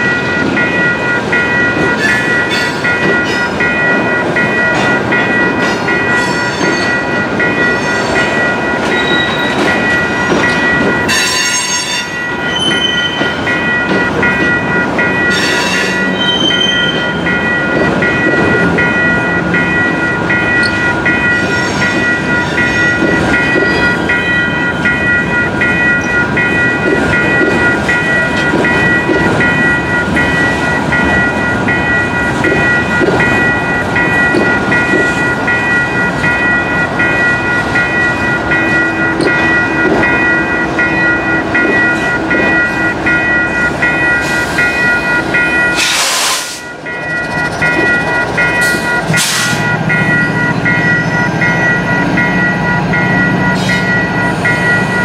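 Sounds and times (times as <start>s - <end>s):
crossing warning bell ringing: 0.0s - 55.0s
diesel locomotive engine hum: 0.0s - 55.0s
train wheels rumbling on rails: 0.0s - 55.0s.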